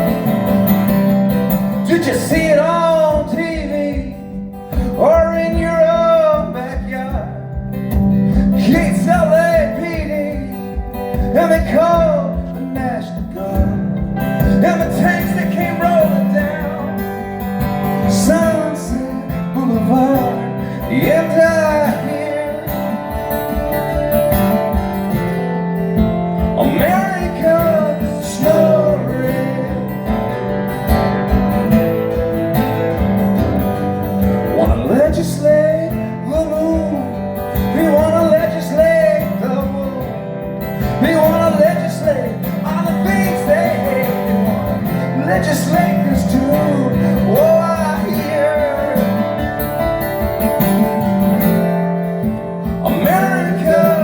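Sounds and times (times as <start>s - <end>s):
acoustic guitar: 0.0s - 54.0s
man singing: 1.5s - 24.0s, 26.3s - 31.2s, 34.2s - 51.1s, 52.2s - 54.0s.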